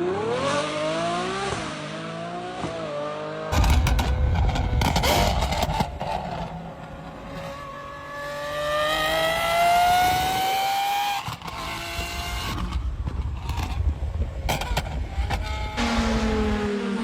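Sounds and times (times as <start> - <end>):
car engine revving at full throttle: 0.0 - 17.0.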